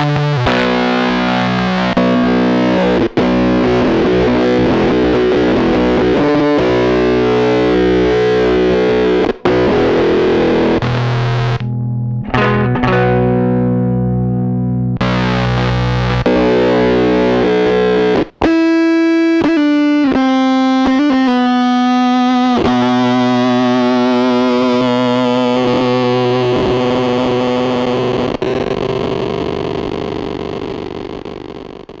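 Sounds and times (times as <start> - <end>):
distorted electric guitar: 0.0 - 32.0.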